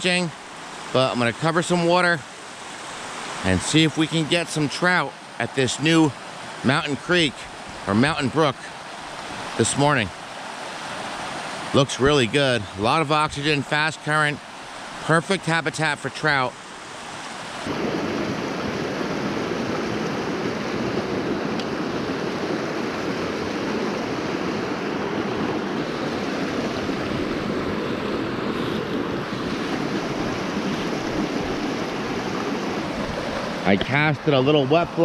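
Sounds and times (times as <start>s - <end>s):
creek rushing over rocks: 0.0s - 35.0s.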